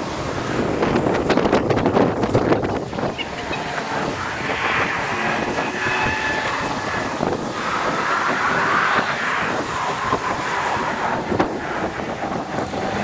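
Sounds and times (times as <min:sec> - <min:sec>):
tyre and road noise: 0:00.0 - 0:13.0
wind buffeting microphone: 0:00.0 - 0:13.0.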